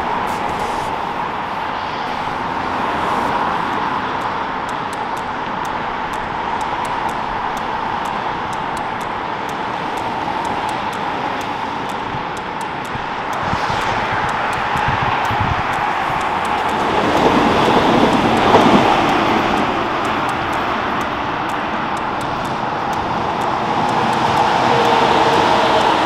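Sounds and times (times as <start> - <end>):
highway traffic rushing: 0.0 - 26.0.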